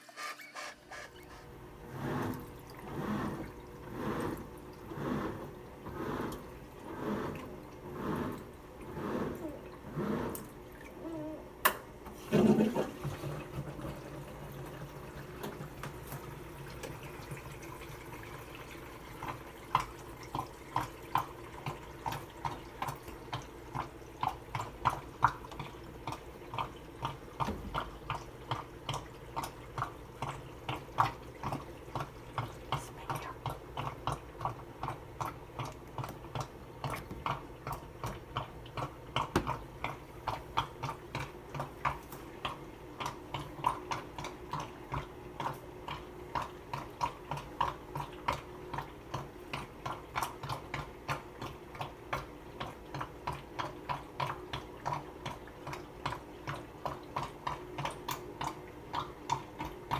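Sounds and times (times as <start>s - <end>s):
washing machine sloshing water: 0.0s - 59.9s.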